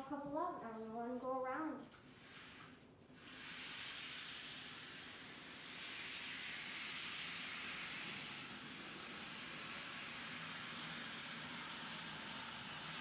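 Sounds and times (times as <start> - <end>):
model train whirring on track: 1.9 - 13.0.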